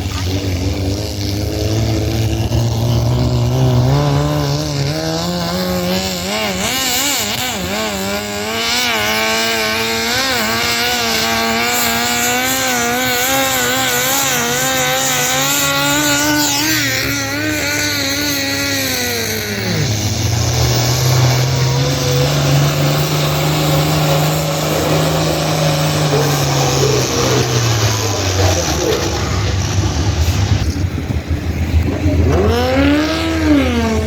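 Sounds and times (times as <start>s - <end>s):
vehicle engine revving under load: 0.0s - 34.0s.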